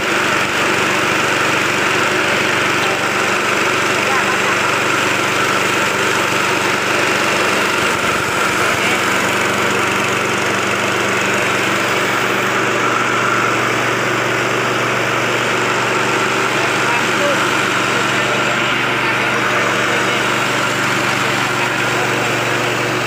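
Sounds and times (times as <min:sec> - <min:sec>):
rice mill running: 0:00.0 - 0:23.0.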